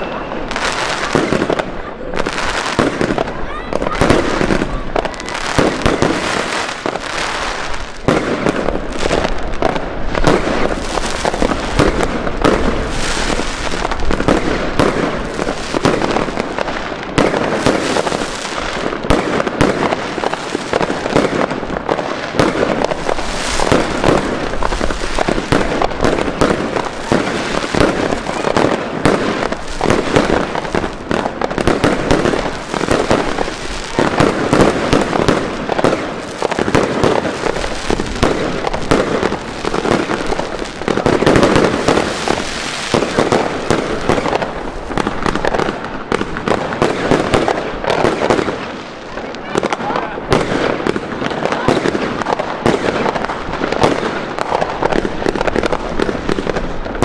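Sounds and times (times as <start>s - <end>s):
fireworks bangs: 0.0s - 57.0s
fireworks crackle: 0.0s - 57.0s.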